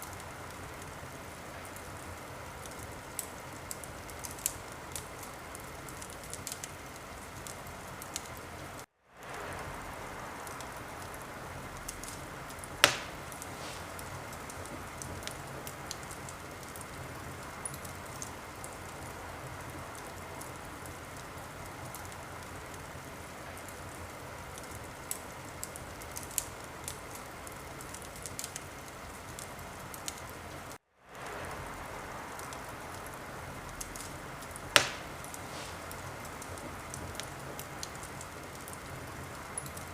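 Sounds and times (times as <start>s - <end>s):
fire popping: 0.0s - 39.9s
wood fire crackling: 0.0s - 39.9s.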